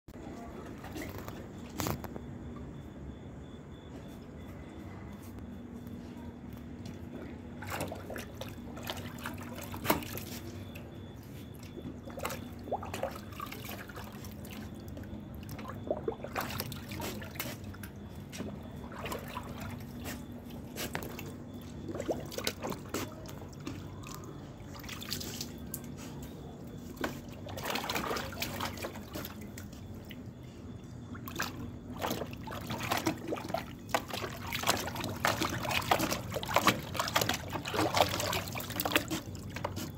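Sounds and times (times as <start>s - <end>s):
dog splashing water in tub: 0.6s - 1.8s, 6.8s - 30.4s, 31.1s - 39.9s
water drips and trickles: 6.8s - 30.4s, 31.0s - 39.9s.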